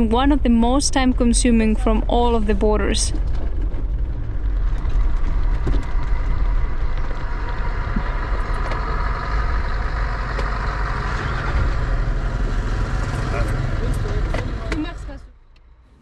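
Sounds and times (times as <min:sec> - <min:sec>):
car engine running low: 0:00.0 - 0:16.0.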